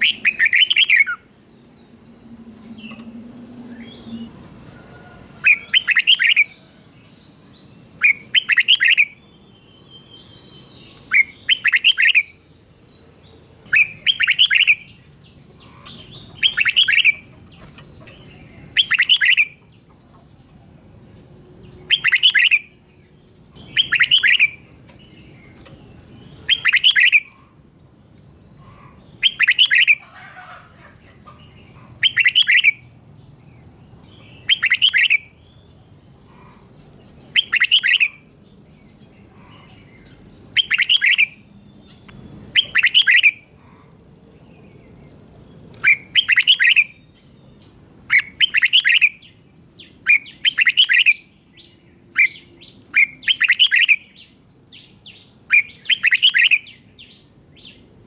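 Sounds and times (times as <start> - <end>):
bulbul singing: 0.0 - 4.5, 5.1 - 20.4, 21.2 - 27.4, 28.4 - 30.1, 31.6 - 43.5, 45.7 - 57.9.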